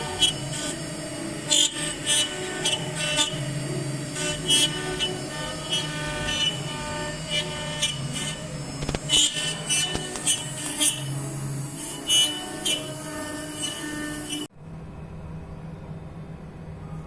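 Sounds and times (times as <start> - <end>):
bit cutting bursts: 0.0 - 14.5
router spindle humming: 0.0 - 14.5.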